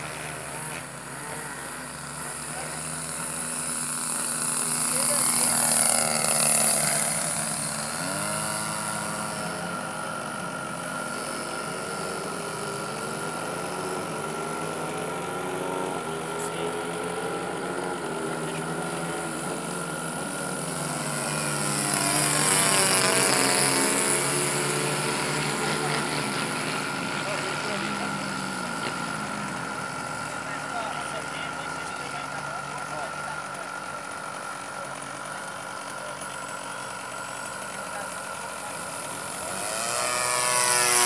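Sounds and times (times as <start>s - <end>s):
light aircraft piston engine: 0.0s - 41.0s.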